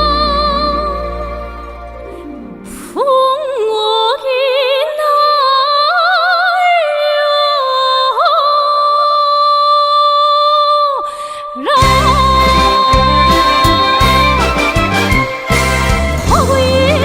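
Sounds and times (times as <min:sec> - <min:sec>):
woman singing with vibrato: 0:00.0 - 0:01.9, 0:02.6 - 0:17.0.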